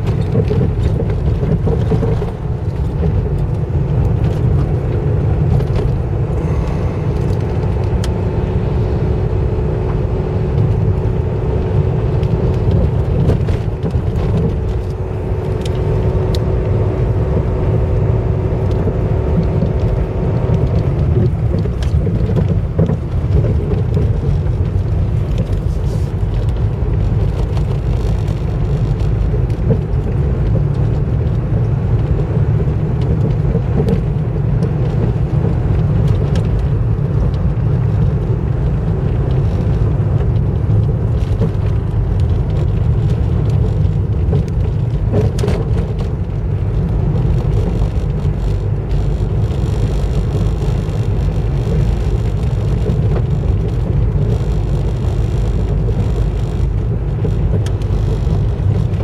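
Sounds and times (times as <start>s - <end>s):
car engine and tyres on wet road: 0.0s - 59.0s.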